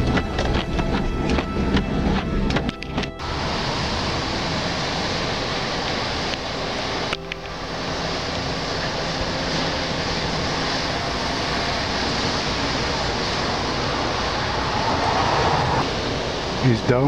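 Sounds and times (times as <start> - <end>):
choppy sea waves: 0.0 - 17.0
wind rumbling on microphone: 0.0 - 17.0
wind rushing: 3.2 - 17.0.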